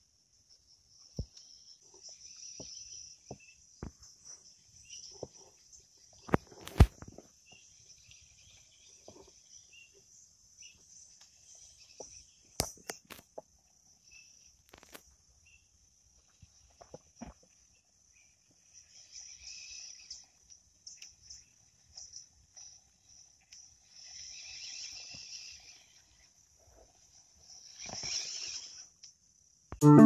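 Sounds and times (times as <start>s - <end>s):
insects chirring: 0.0s - 29.8s.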